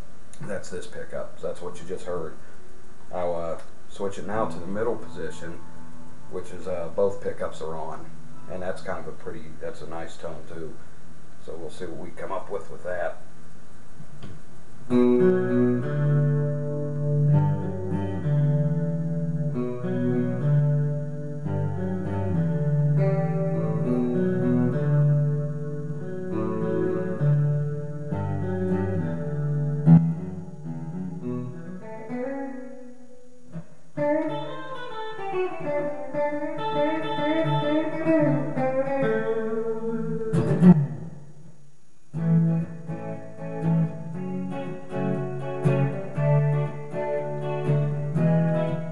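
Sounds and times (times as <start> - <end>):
electric guitar riffs and lead lines: 3.3 - 9.3, 14.1 - 48.9.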